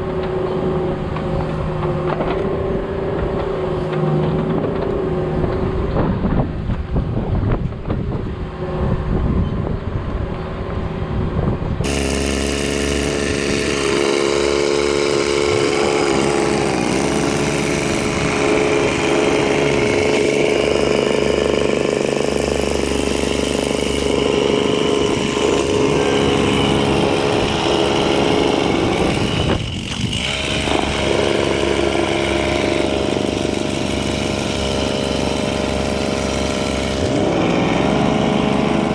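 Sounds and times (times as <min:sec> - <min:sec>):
heavy equipment engine running: 0:00.0 - 0:38.9.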